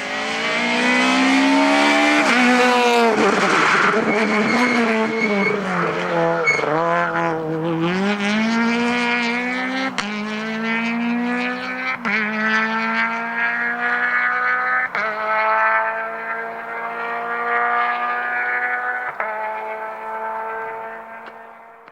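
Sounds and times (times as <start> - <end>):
rally car engine accelerating: 0.0 - 21.9.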